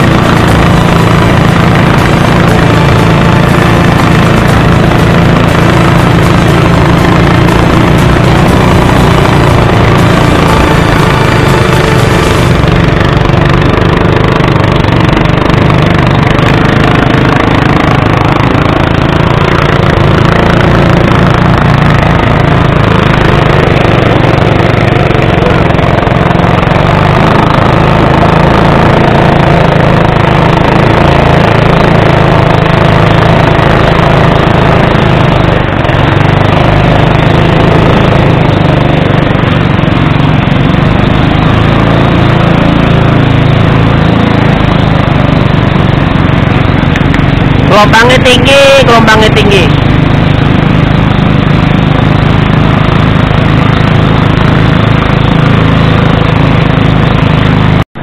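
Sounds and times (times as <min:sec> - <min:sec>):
small petrol boat engine: 0:00.0 - 0:58.0
water rushing along hull: 0:00.0 - 0:58.0.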